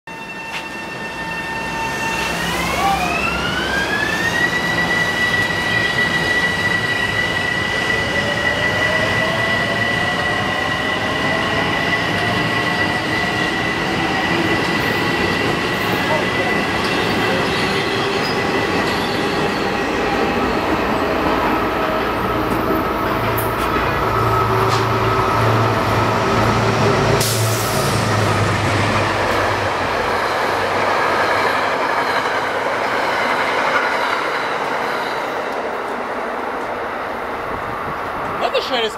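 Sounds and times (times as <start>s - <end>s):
train wheels rumbling on rails: 0.4s - 38.9s.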